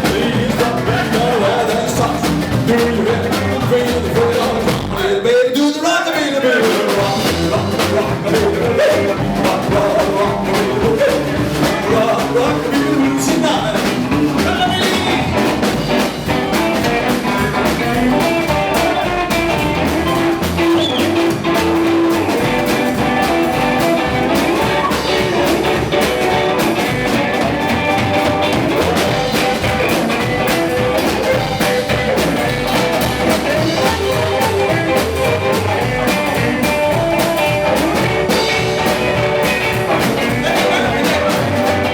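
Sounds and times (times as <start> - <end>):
rock and roll band playing: 0.0 - 41.9.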